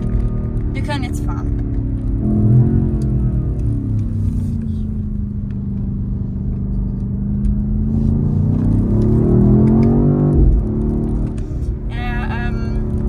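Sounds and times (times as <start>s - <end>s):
car engine from inside cabin: 0.0s - 13.0s
road rumble: 0.0s - 13.0s.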